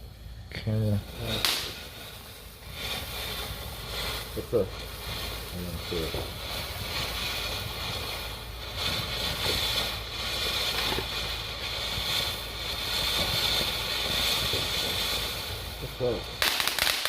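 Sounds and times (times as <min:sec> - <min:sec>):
fountain firework hissing: 0:00.0 - 0:17.0.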